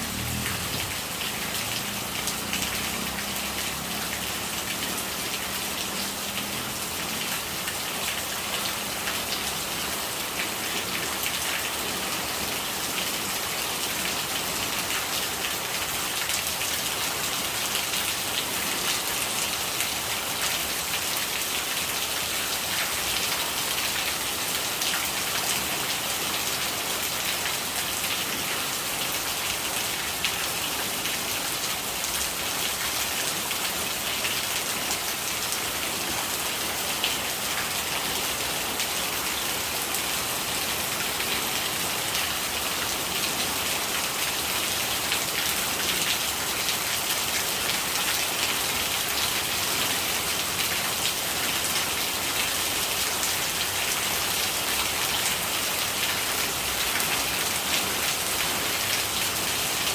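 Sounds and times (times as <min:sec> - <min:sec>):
low murmur of rainwater: 0:00.0 - 0:59.9
rain falling: 0:00.0 - 0:59.9.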